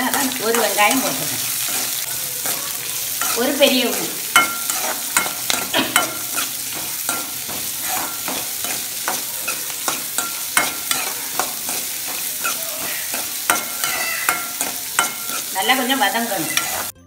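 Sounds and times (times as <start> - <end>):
onions sizzling in hot oil: 0.0 - 17.0
metal spatula scraping pan: 0.4 - 17.0.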